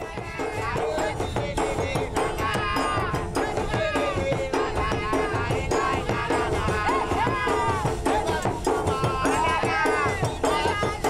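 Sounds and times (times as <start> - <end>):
frame drums beaten quickly: 0.0 - 11.0
man singing: 0.0 - 11.0.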